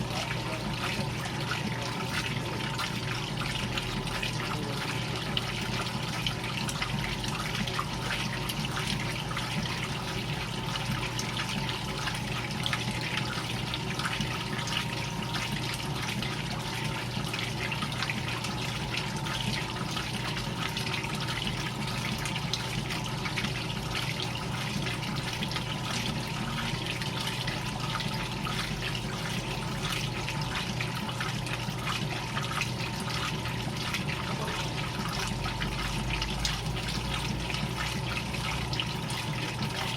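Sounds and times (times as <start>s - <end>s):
washing machine motor hum: 0.0s - 39.9s
water sloshing in washing machine: 0.0s - 39.9s.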